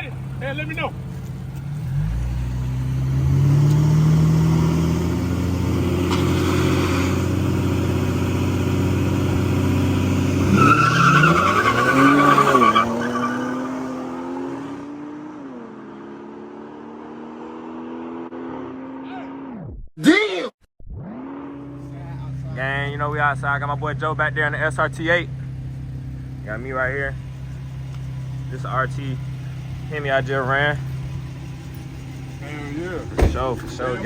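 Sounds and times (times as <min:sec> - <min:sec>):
tires squealing: 0:00.0 - 0:14.9, 0:21.0 - 0:34.0
car engines revving: 0:00.0 - 0:19.6, 0:21.0 - 0:34.0.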